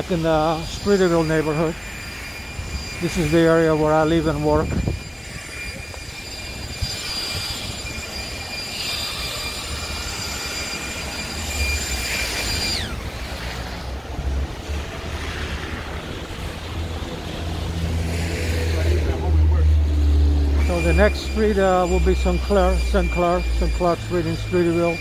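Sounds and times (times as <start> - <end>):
high steady whine: 0.0 - 25.0
street traffic rumble: 0.0 - 25.0.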